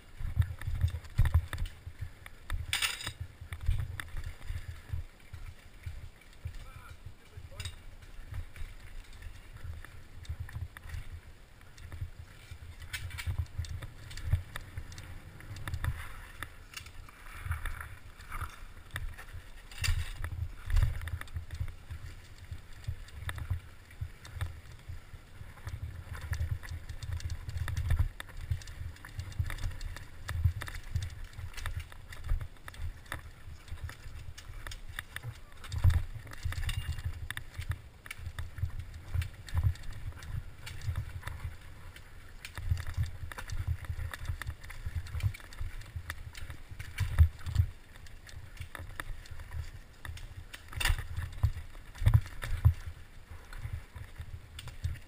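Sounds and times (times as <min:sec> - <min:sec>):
bike rattling on rocky trail: 0:00.0 - 0:55.0
wind rumbling on microphone: 0:00.0 - 0:55.0.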